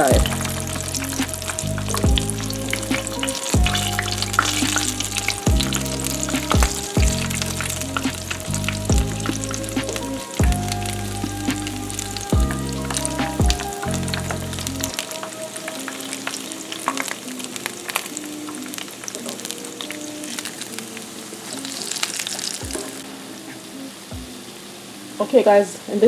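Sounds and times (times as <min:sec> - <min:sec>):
background music with deep bass: 0:00.0 - 0:25.2
dumplings sizzling in oil: 0:00.0 - 0:26.0.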